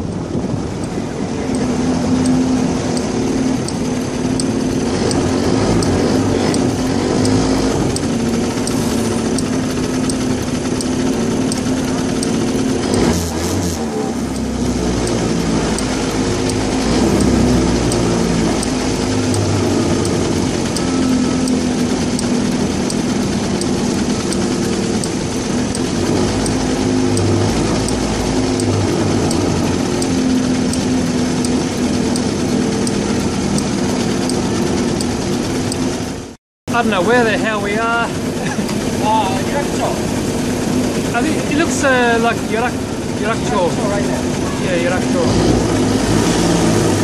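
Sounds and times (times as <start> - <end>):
go-kart engine idling: 0.0 - 47.0.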